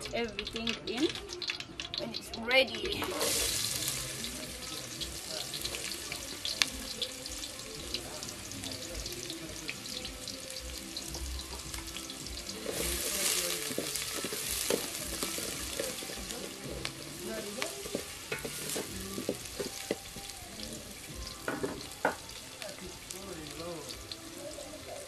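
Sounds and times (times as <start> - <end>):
beef sizzling in oil: 0.0 - 25.0.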